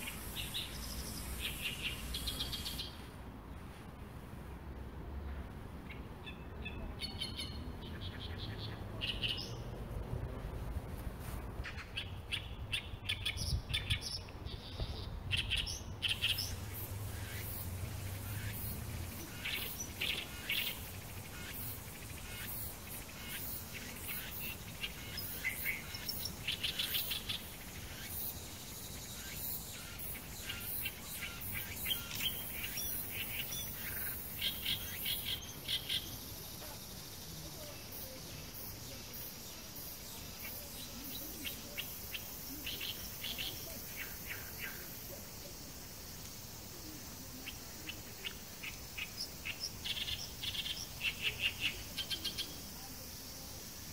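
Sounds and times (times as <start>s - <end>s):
small birds chirping: 0.0s - 3.1s, 5.8s - 9.8s, 11.6s - 53.9s.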